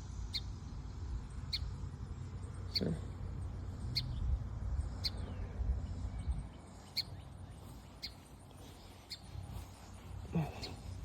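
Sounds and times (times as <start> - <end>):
small bird chirping: 0.1 - 11.0.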